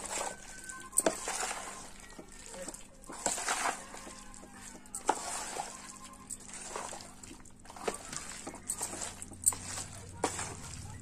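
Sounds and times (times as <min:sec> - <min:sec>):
mango pieces tossed in plastic tub: 0:00.0 - 0:11.0.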